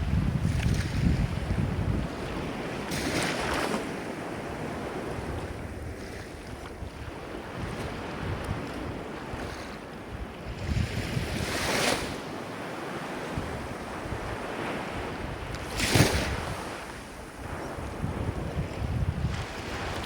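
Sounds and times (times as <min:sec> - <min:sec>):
ocean surf washing: 0:00.0 - 0:20.0
waves breaking: 0:00.0 - 0:20.0
wind buffeting microphone: 0:00.0 - 0:20.0.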